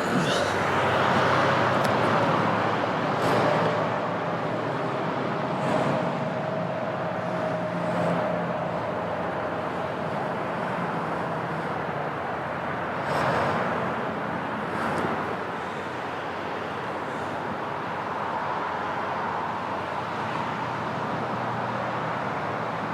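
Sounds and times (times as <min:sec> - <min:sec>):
road traffic hum: 0:00.0 - 0:22.9.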